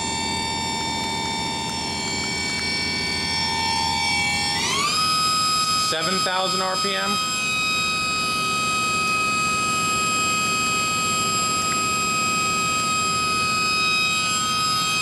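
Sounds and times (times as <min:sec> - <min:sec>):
machine spindle high-pitched whine: 0:00.0 - 0:15.0
motor hum: 0:00.0 - 0:15.0.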